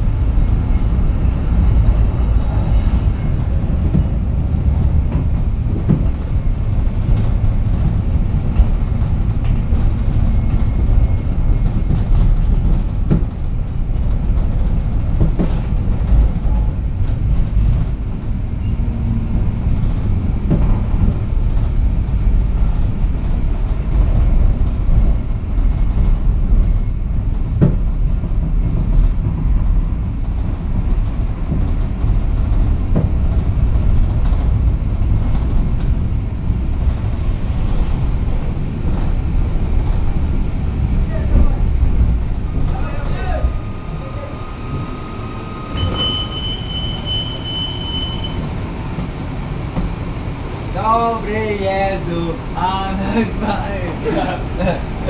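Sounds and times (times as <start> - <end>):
tram wheels rumbling: 0.0 - 55.0.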